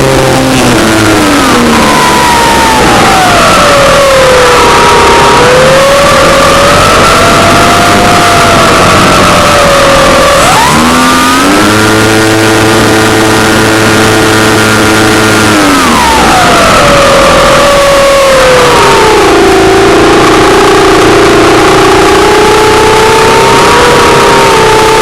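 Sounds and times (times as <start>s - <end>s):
model aircraft engine revving: 0.0s - 25.0s.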